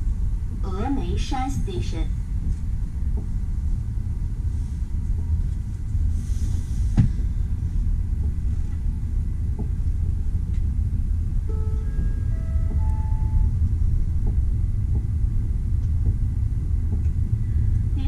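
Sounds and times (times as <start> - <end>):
train rumble inside cabin: 0.0 - 18.0.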